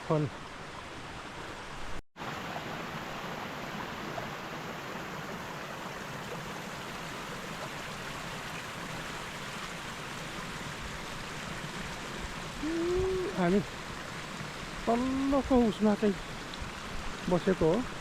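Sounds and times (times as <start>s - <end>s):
stream running water: 0.0s - 18.0s.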